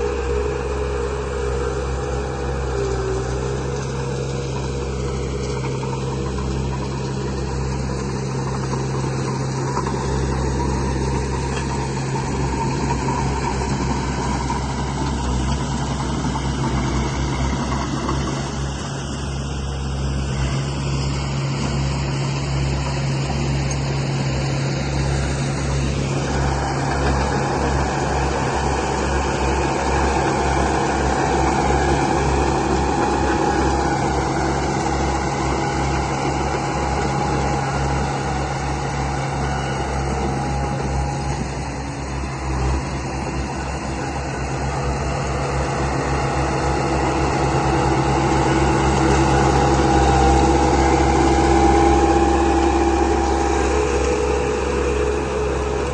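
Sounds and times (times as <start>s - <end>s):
model motors humming and whining: 0.0s - 55.9s.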